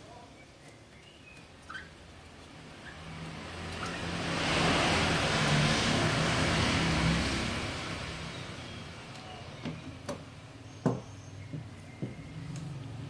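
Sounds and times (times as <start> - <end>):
motor vehicle passing: 1.7 - 13.0.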